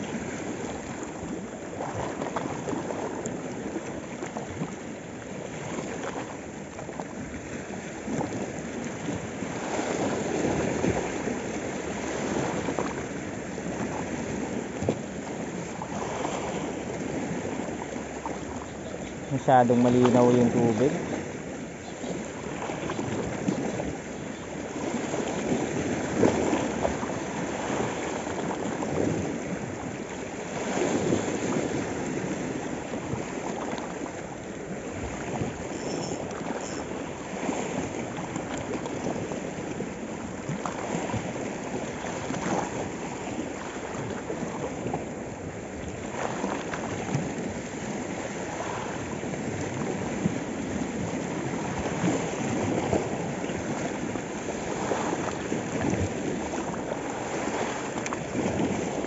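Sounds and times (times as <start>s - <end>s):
sea waves splashing over rocks: 0.0s - 59.0s.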